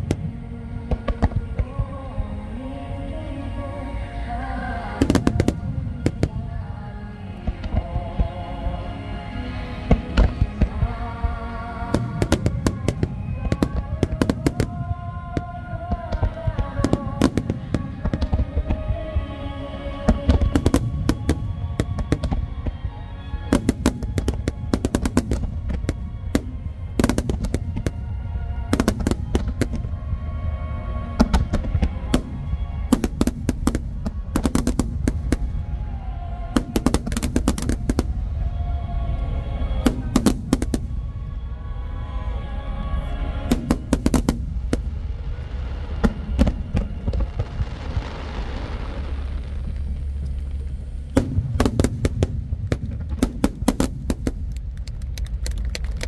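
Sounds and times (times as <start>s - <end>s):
music playing: 0.0s - 49.5s
low rumble: 0.0s - 56.0s.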